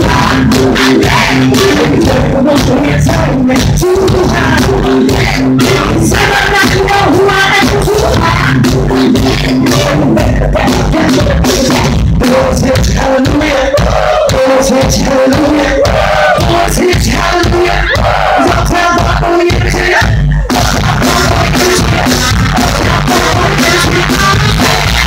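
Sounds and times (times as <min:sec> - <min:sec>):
drum kit: 0:00.0 - 0:25.0
electric bass guitar: 0:00.0 - 0:25.0
woman singing lead: 0:00.0 - 0:25.0.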